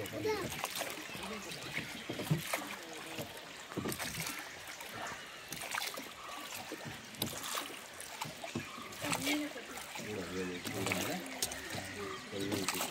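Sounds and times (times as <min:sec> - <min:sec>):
oar splashes: 0:00.0 - 0:12.9
water lapping around boat: 0:00.0 - 0:12.9.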